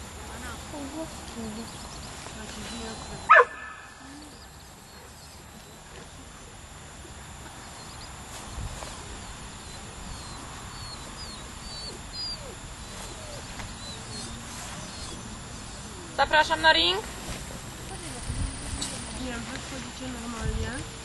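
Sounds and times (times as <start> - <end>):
small birds chirping: 0.3 - 6.4, 7.6 - 19.4.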